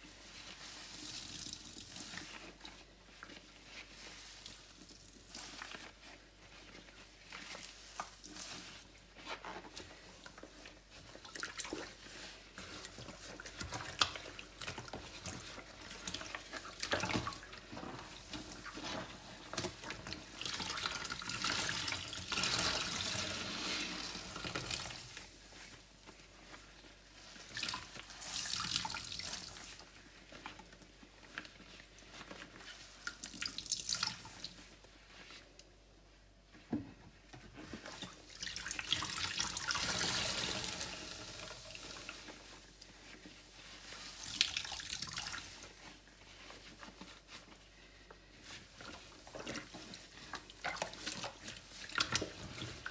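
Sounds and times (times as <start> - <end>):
sponge squelching: 0.0 - 35.7, 37.4 - 52.9.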